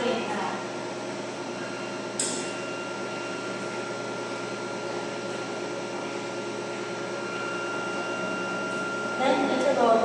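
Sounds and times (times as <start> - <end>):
ice cream machine humming: 0.0 - 10.0.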